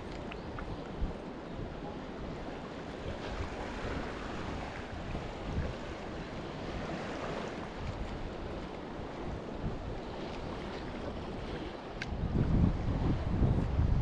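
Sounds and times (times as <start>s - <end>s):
small waves lapping on rocks: 0.0s - 12.1s
wind buffeting microphone: 0.0s - 14.0s.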